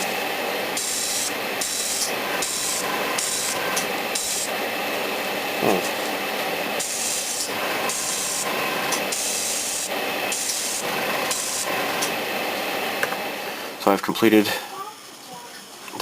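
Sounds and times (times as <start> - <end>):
airbrush hissing: 0.0 - 12.8
steady hum: 0.0 - 14.4.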